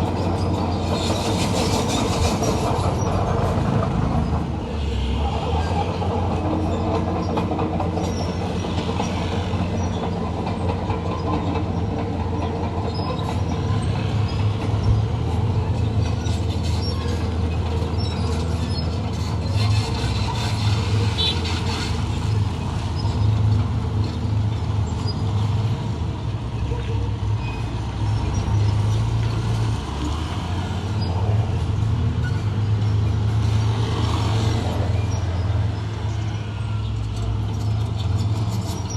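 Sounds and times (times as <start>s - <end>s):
steel tracks clattering: 5.2s - 38.9s.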